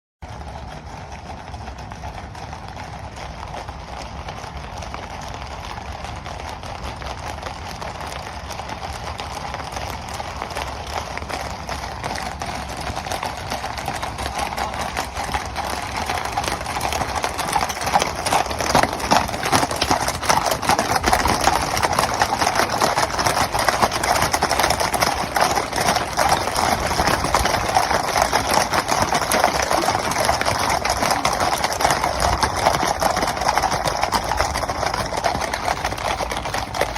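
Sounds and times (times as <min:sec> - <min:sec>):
horses galloping hooves drumming: 0:00.2 - 0:36.9.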